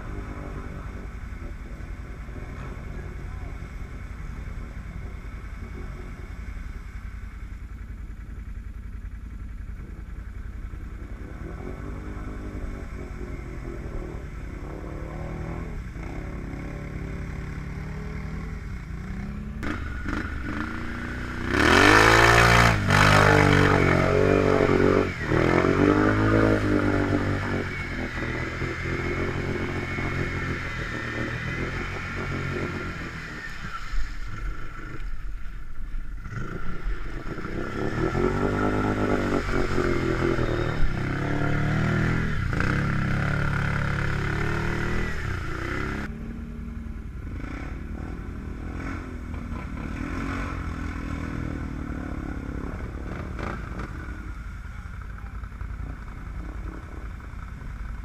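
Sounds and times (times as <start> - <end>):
quad engine revving: 0.0 - 6.8, 10.6 - 35.1, 36.2 - 54.4.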